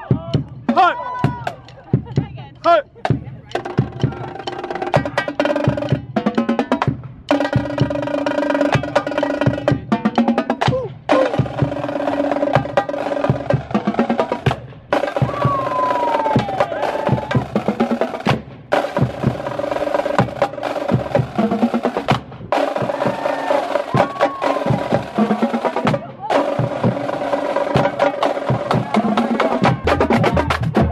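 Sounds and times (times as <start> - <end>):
marching drumline playing: 0.0 - 30.9.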